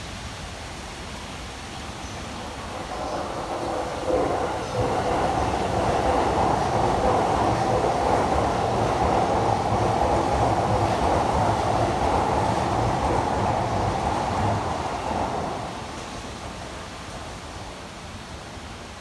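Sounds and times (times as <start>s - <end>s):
train rumbling past: 1.3s - 18.6s.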